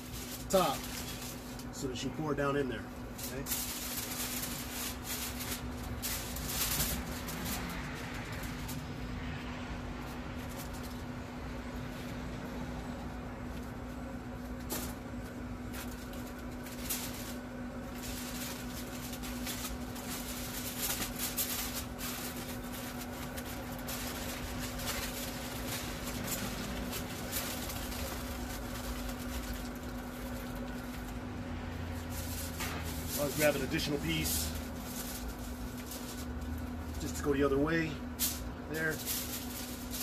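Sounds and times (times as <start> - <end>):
aluminium foil crinkling: 0.0 - 40.0
steady low hum: 0.0 - 40.0.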